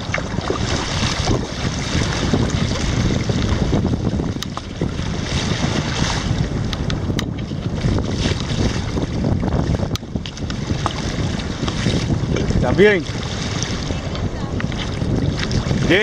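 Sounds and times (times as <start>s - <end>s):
water sloshing around kayak: 0.0s - 16.0s
wind buffeting microphone: 0.0s - 16.0s.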